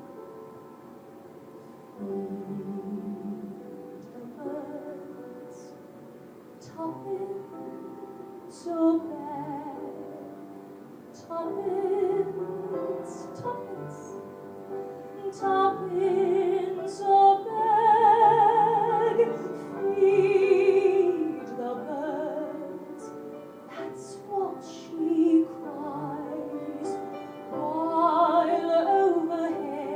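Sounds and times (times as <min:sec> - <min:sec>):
woman singing operatic ballad: 0:01.9 - 0:29.9.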